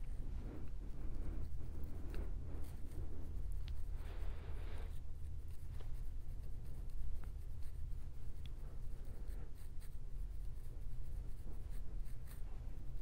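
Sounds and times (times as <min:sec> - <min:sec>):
comb scratching scalp: 0:00.0 - 0:13.0.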